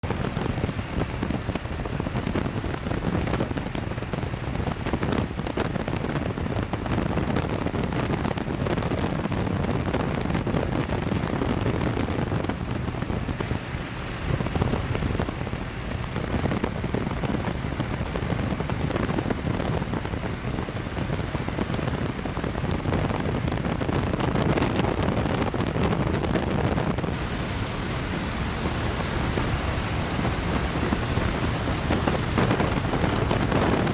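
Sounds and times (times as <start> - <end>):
heavy rain: 0.0 - 33.9
wind: 0.0 - 33.9.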